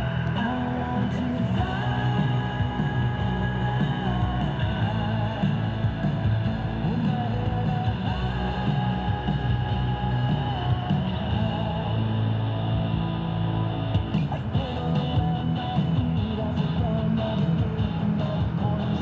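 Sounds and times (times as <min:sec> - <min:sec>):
rock music over loudspeakers: 0:00.0 - 0:19.0.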